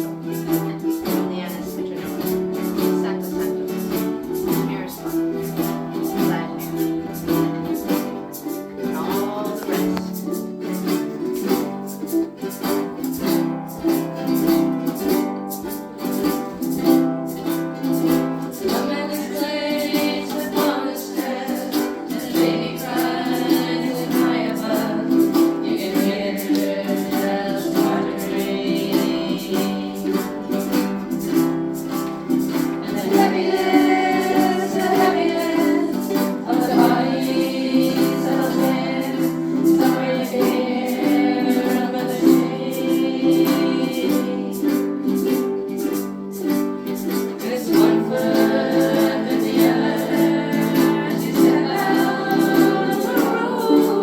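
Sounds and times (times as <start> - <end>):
group of voices singing: 0.0 - 54.0
ukuleles strumming: 0.0 - 54.0.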